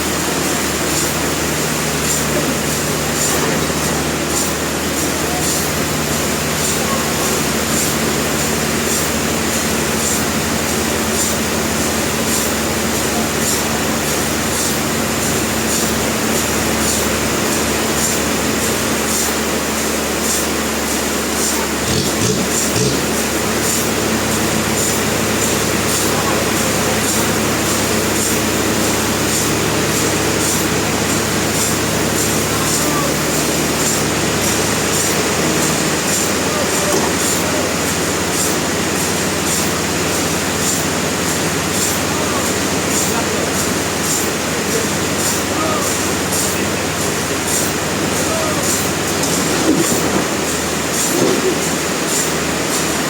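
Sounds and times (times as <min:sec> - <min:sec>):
sawmill machinery running: 0:00.0 - 0:53.0
sharp machine hiss: 0:00.0 - 0:53.0.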